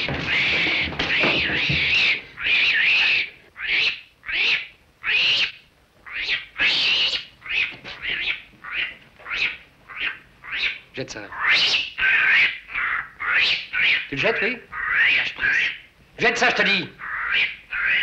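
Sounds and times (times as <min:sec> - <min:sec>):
monkey shrieking: 0:00.0 - 0:14.1, 0:14.7 - 0:15.9, 0:16.9 - 0:18.0.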